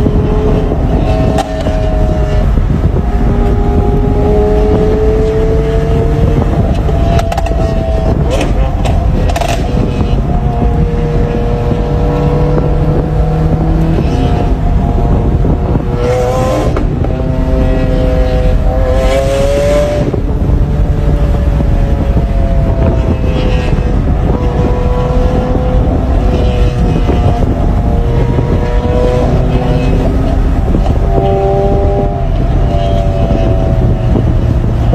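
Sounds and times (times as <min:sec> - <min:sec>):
sports car engines revving: 0:00.0 - 0:34.9.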